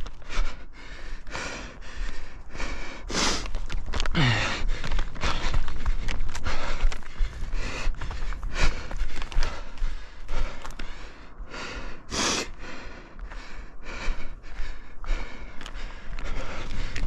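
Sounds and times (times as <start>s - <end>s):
runner breathing heavily: 0.0s - 17.0s
footsteps: 1.3s - 11.0s, 13.0s - 17.0s.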